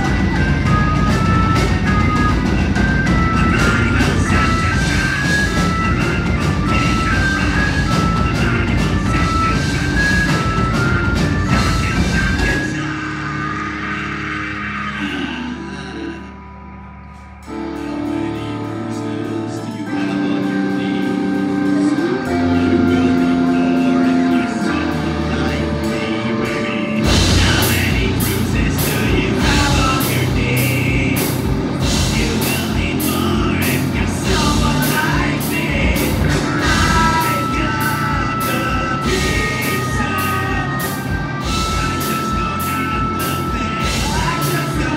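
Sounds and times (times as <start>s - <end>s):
drums steady beat: 0.0s - 14.2s, 18.7s - 44.9s
bass guitar held notes: 0.0s - 44.9s
person singing: 0.0s - 44.9s.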